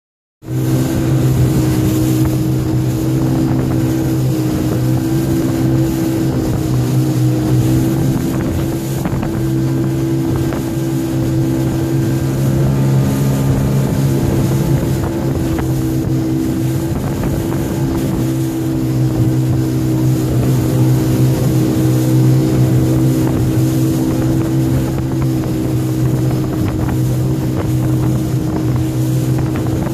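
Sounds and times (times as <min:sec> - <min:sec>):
motorboat engine humming: 0:00.4 - 0:29.9
water rushing past hull: 0:00.4 - 0:29.9
wind on microphone: 0:00.5 - 0:29.9.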